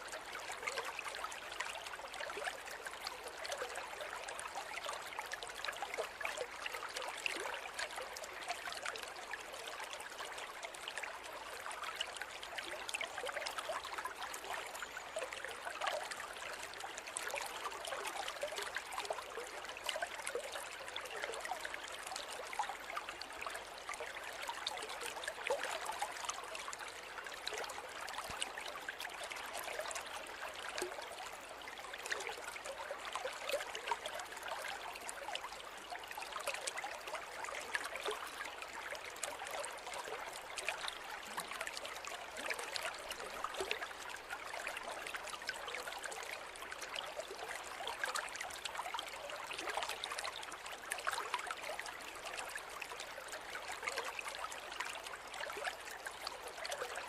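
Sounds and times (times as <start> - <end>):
shallow river over stones: 0.0 - 57.0.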